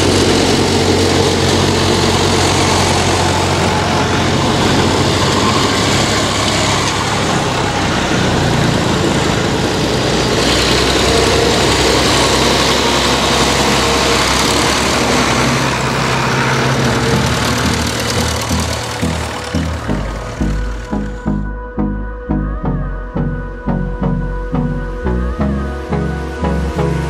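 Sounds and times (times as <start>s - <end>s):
tractor engines running: 0.0s - 21.8s.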